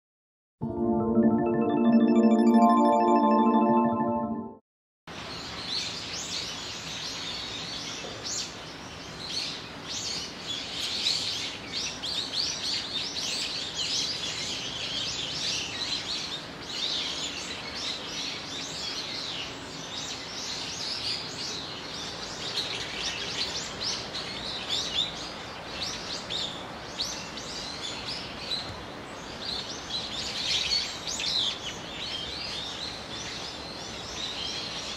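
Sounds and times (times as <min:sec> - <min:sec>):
low outdoor background noise: 0:05.1 - 0:34.9.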